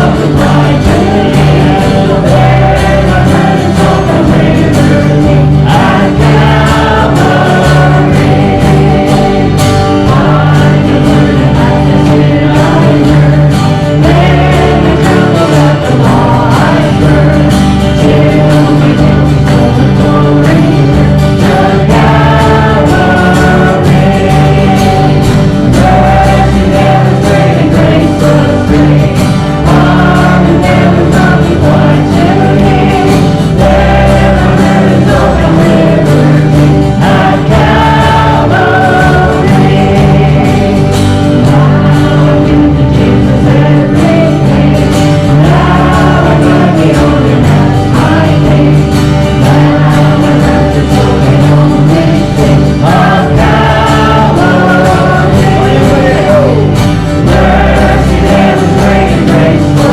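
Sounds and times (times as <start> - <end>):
congregation singing a hymn: 0.0 - 59.9
musical accompaniment: 0.0 - 59.9.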